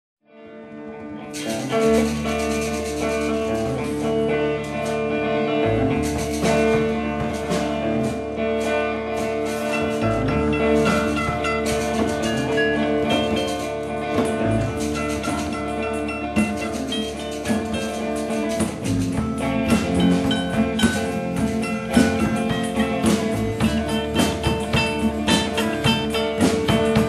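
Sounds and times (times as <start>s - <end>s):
guitar playing: 0.3s - 27.0s
low bass notes: 0.7s - 27.0s
drum hits: 1.4s - 27.0s.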